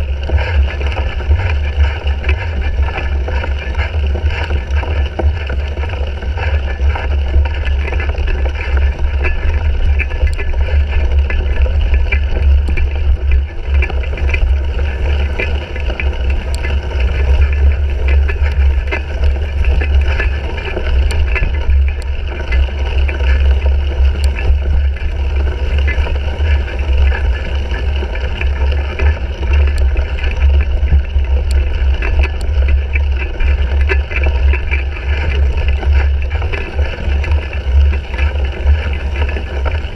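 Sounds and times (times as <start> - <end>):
low rumble of wind: 0.0 - 39.9.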